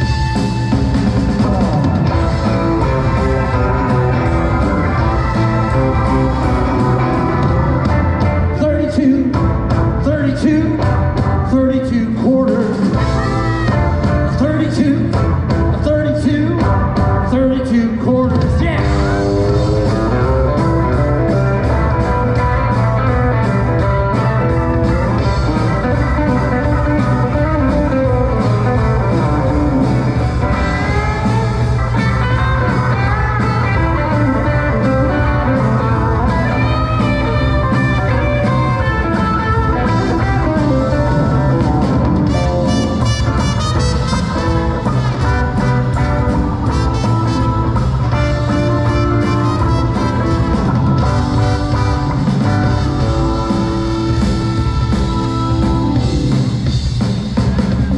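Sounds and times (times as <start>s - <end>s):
bass and drums: 0.0s - 57.9s
electric guitar: 0.0s - 57.9s.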